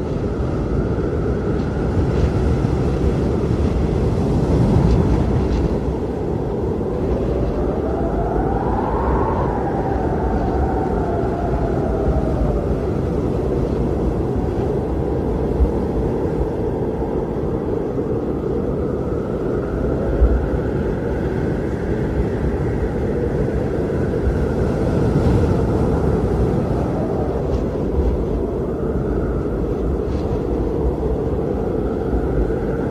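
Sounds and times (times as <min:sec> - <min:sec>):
howling blizzard wind: 0:00.0 - 0:32.9
low bumps of wind gusts: 0:00.0 - 0:32.9.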